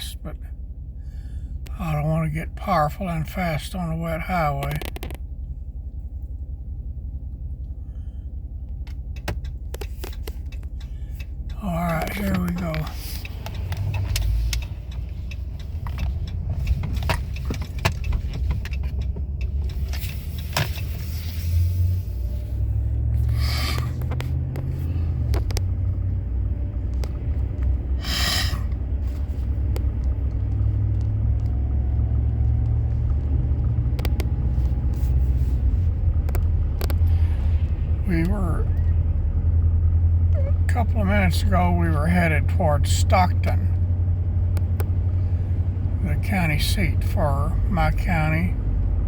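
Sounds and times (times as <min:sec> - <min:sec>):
car engine: 0:00.0 - 0:49.0
road rumble: 0:00.0 - 0:49.0.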